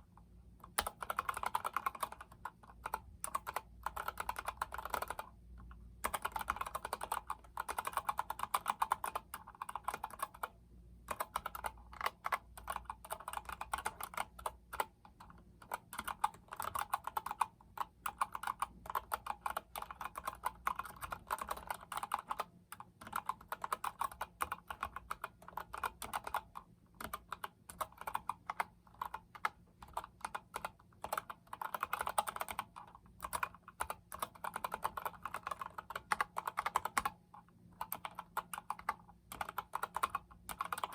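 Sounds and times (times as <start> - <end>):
mechanical keyboard typing: 0.6 - 5.4, 6.0 - 40.9.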